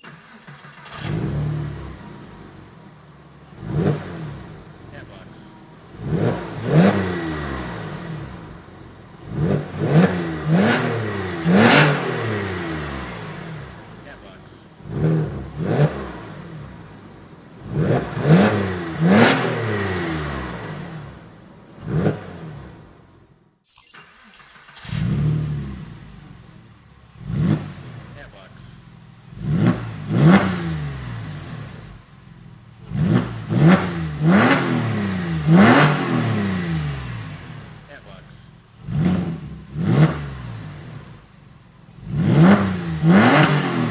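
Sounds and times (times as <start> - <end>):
car engine revving: 0.0 - 23.4, 24.1 - 43.9.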